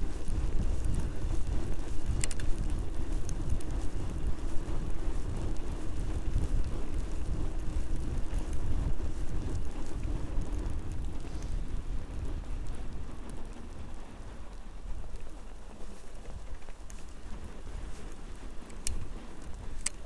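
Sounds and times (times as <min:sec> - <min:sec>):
bike tyres rolling through snow: 0:00.0 - 0:20.0
wind buffeting microphone: 0:00.0 - 0:20.0.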